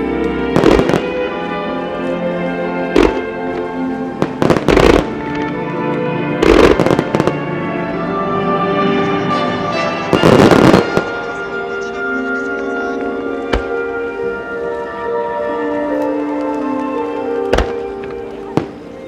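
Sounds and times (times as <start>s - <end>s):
steady music: 0.0s - 19.0s.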